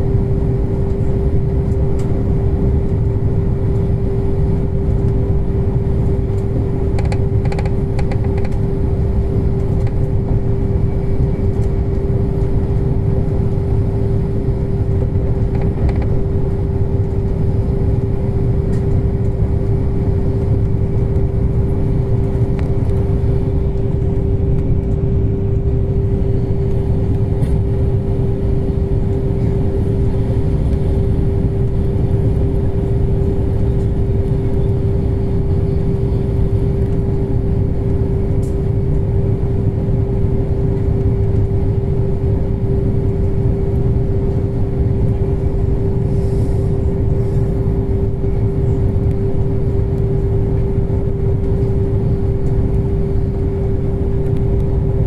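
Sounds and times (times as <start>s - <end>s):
steady hum: 0.0s - 55.0s
train rumble inside carriage: 0.0s - 55.0s.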